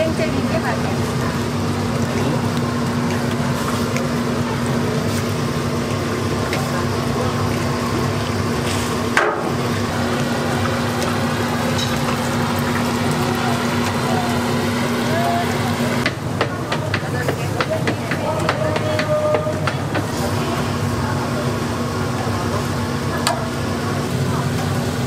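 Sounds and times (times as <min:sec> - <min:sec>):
dough deep-frying in hot oil: 0:00.0 - 0:25.0.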